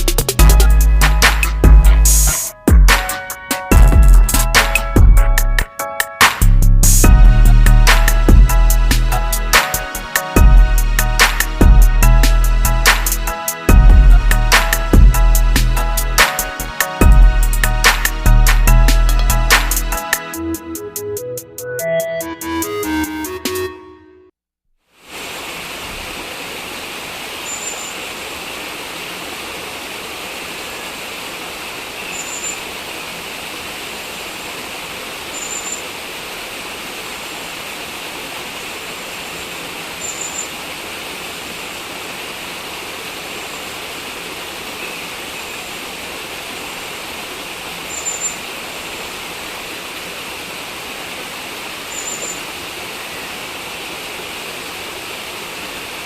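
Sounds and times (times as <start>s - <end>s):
running floodwater: 0.6s - 20.4s, 24.9s - 56.0s
heavy rain: 6.3s - 20.3s, 24.9s - 56.0s.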